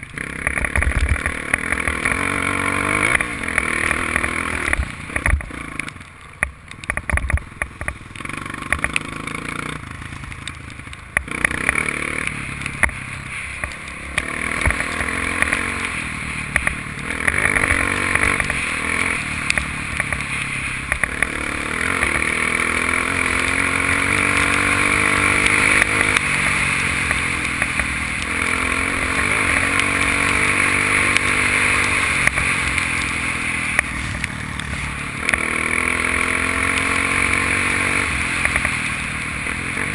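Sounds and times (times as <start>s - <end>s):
dirt bike engine revving: 0.1s - 5.9s, 8.2s - 10.5s, 11.2s - 39.9s.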